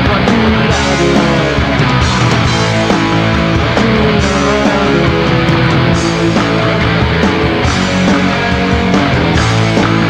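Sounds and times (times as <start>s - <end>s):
punk rock band playing live: 0.0s - 10.0s.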